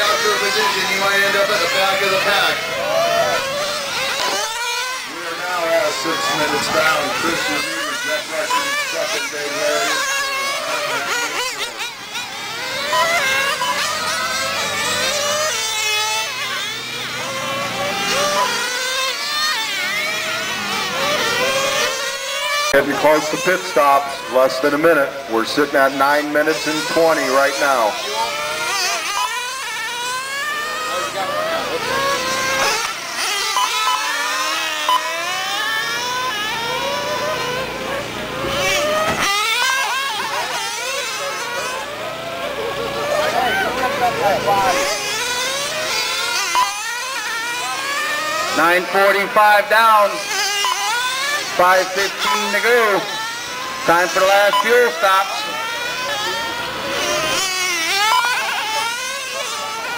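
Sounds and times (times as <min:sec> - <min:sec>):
small nitro engines revving: 0:00.0 - 0:59.9.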